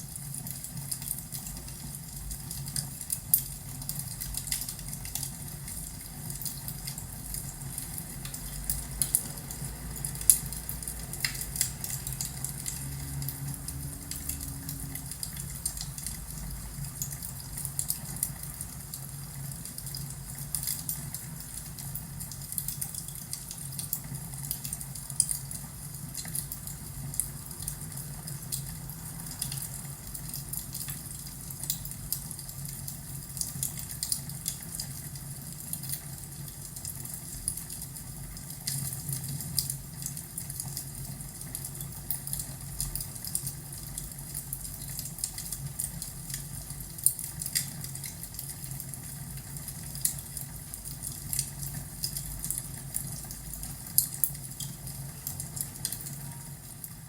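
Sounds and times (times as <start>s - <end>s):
wood fire crackling: 0.0s - 57.0s
fire low rumble: 0.1s - 57.0s.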